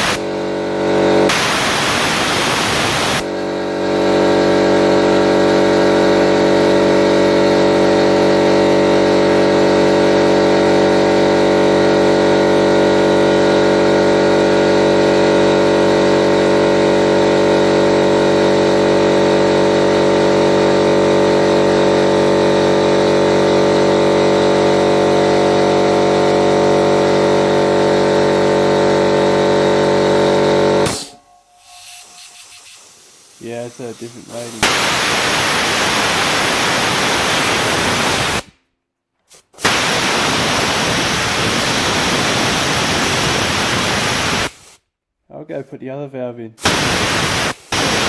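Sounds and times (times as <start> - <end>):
air compressor running: 0.0 - 38.6, 39.2 - 44.8, 46.6 - 48.0.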